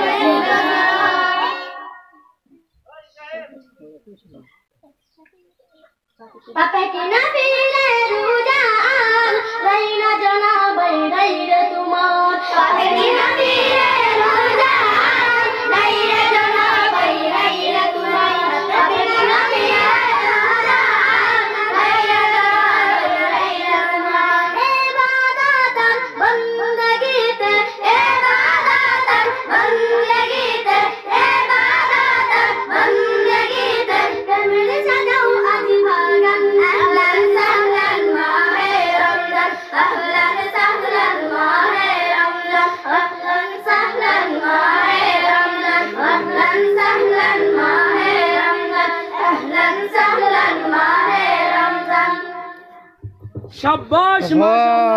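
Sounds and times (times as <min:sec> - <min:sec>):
girls singing devotional song: 0:00.0 - 0:02.6, 0:06.5 - 0:53.7.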